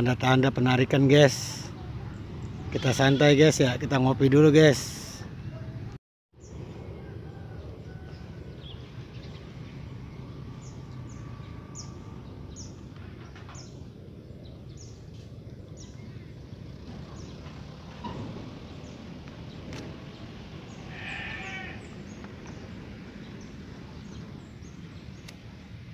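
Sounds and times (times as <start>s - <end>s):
low outdoor rumble: 3.6s - 25.9s.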